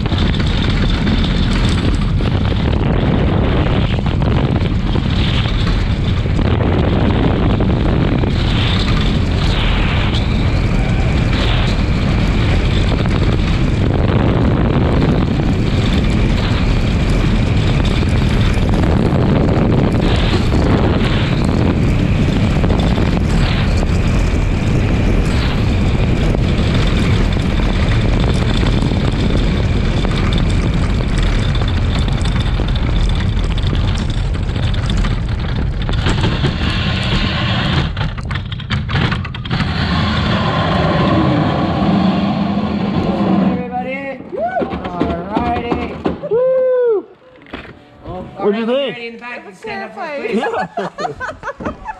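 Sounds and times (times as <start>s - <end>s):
sled runners on ice: 0.0s - 42.1s
wind rushing over microphone: 0.0s - 47.1s.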